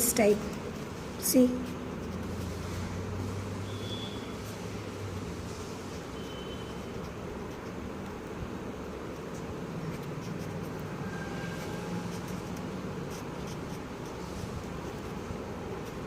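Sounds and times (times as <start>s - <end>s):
pen scratching on paper: 0.0s - 3.0s, 5.4s - 16.0s
low background hum: 0.0s - 16.0s.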